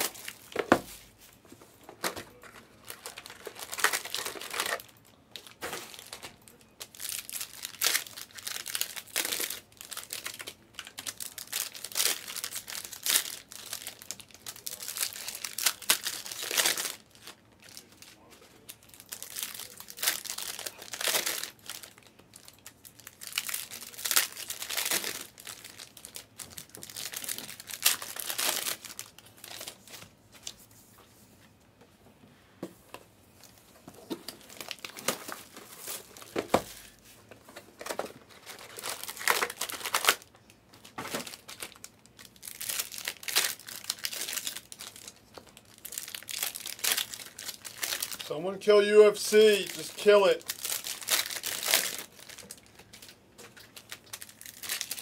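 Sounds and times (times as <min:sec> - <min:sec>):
foil wrappers crinkling and tearing: 0:01.9 - 0:30.6, 0:34.3 - 0:55.0.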